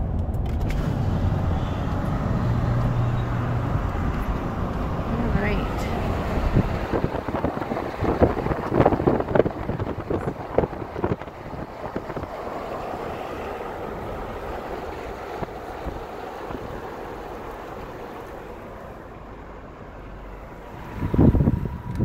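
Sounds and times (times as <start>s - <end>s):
wind rushing: 0.0s - 18.7s, 20.5s - 22.0s
tyre noise on wet road: 0.0s - 22.0s.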